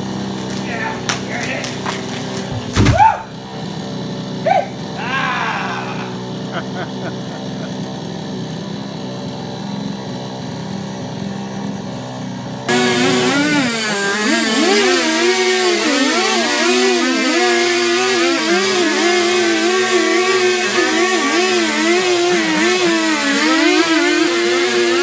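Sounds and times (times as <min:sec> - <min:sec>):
chainsaw cutting a log: 0:00.0 - 0:25.0.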